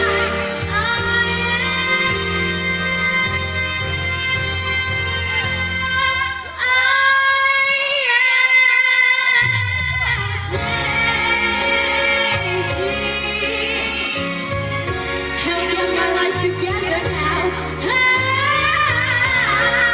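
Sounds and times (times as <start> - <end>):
music bass: 0.0 - 7.7, 9.3 - 19.9.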